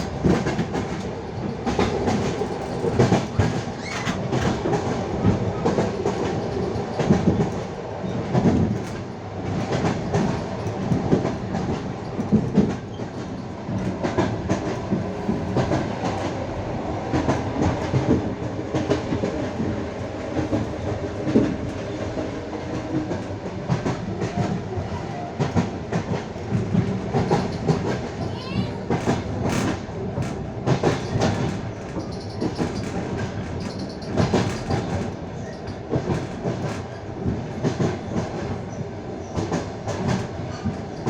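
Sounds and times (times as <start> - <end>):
train wheels clickety-clack: 0.0 - 41.0.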